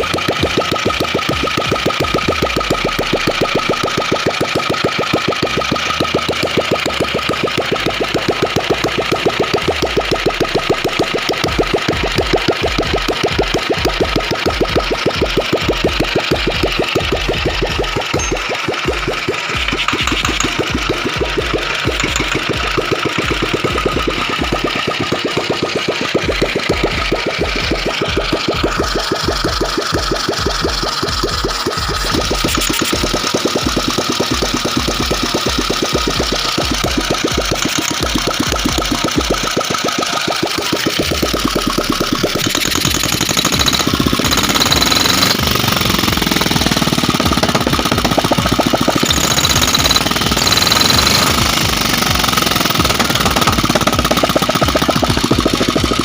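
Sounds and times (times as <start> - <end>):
engine thumping: 0.0 - 56.0.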